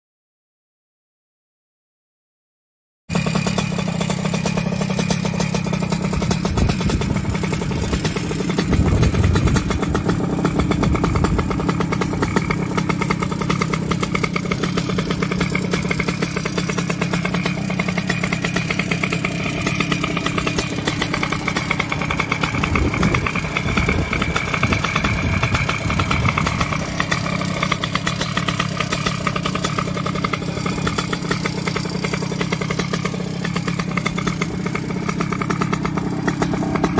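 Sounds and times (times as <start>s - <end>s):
two-stroke moped engine running: 3.1s - 36.9s.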